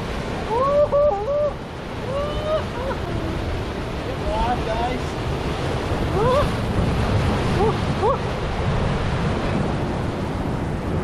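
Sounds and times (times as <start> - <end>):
surf breaking on rocks: 0.0 - 11.0
wind buffeting microphone: 0.0 - 11.0.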